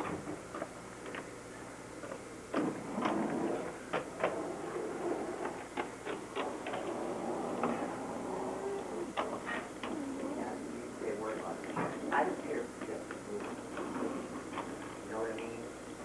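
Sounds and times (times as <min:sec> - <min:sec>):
skate wheels rolling on concrete: 0:02.0 - 0:15.6.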